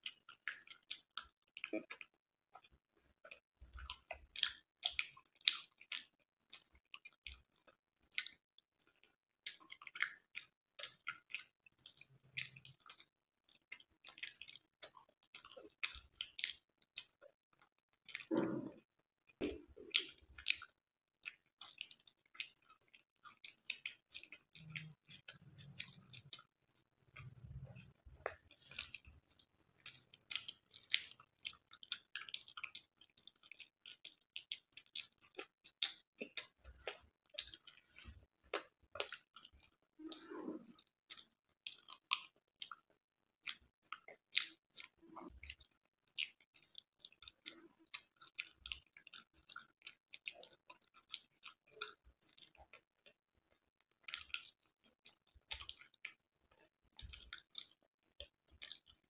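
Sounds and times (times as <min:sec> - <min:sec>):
mouth clicks and lip smacks: 0:00.0 - 0:26.5, 0:27.1 - 0:59.0
wet chewing: 0:00.0 - 0:59.0.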